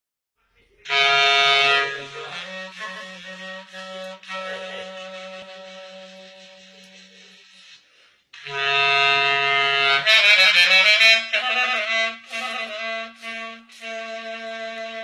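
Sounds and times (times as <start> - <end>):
folk clarinet melody: 0.9 - 7.8, 8.4 - 15.0.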